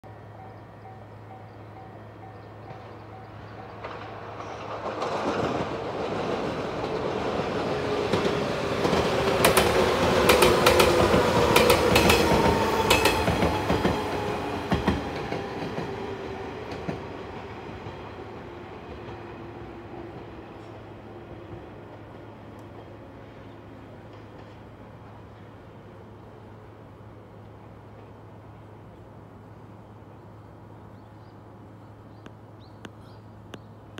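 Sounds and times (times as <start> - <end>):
electric train passing: 0.1 - 32.6.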